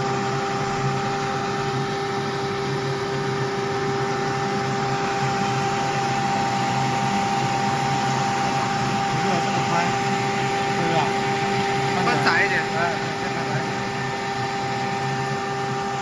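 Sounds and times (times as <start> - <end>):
milling machine motor hum: 0.0 - 16.0
noisy machine whirr: 0.0 - 16.0.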